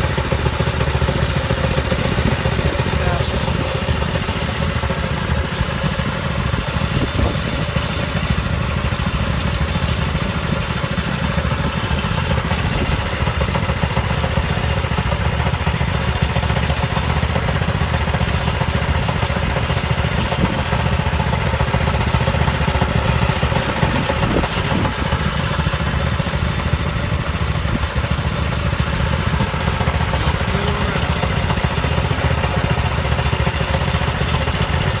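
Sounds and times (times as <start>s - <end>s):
mini bike engine running: 0.0s - 35.0s.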